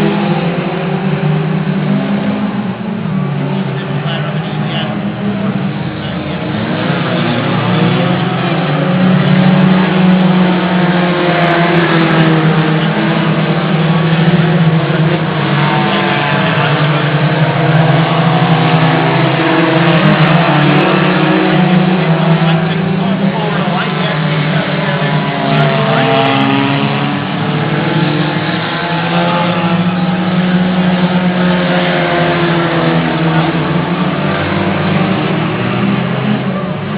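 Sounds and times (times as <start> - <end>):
race car engines running: 0.0 - 36.9.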